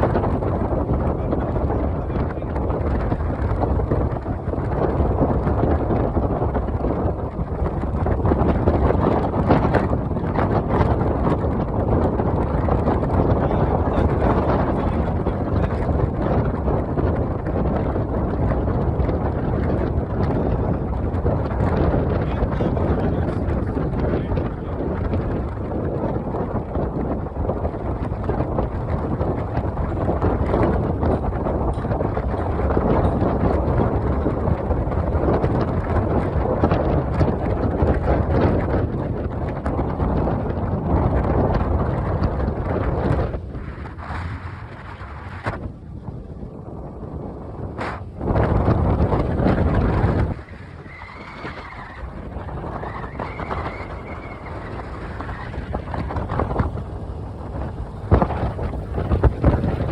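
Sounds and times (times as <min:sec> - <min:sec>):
road and vehicle noise: 0:00.0 - 0:59.9
wind rushing over microphone: 0:00.0 - 0:59.9.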